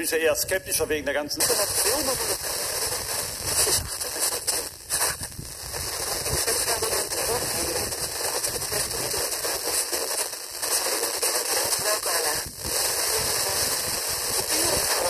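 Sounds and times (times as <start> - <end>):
faint radio programme audio: 0.0 - 5.1, 6.0 - 15.0
radio static hiss and crackle: 0.0 - 15.0.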